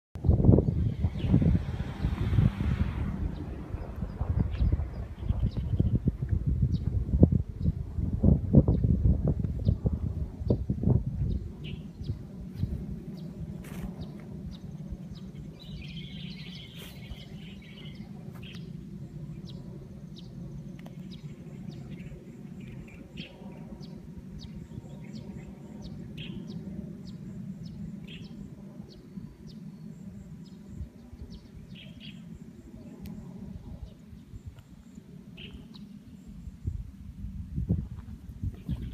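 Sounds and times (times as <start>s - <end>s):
low rumble: 0.2s - 38.9s
birds chirping: 0.3s - 6.9s, 11.3s - 36.5s.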